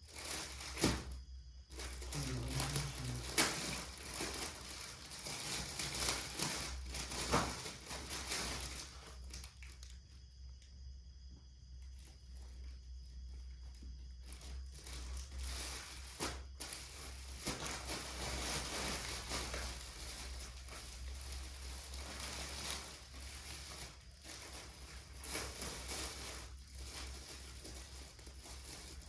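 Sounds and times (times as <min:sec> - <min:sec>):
plastic packaging crinkling: 0:00.0 - 0:10.0, 0:14.2 - 0:29.0.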